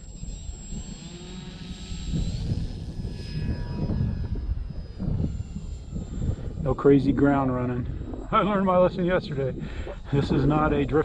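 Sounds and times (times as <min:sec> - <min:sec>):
electric motor and propeller whining: 0:00.0 - 0:11.0
wind rumble on microphone: 0:00.0 - 0:11.0.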